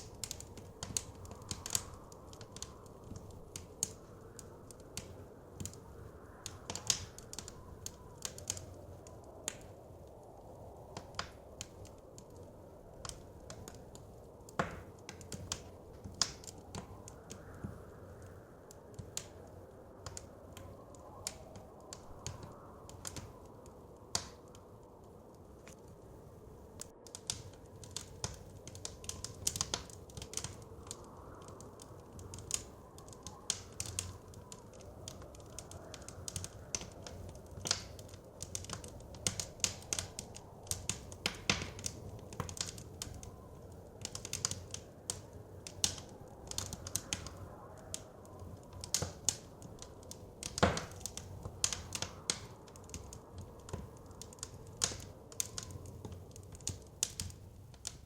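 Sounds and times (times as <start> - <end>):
low rumble of flames: 0.0 - 58.0
wind: 0.0 - 58.0
wood fire crackling and popping: 0.0 - 58.0.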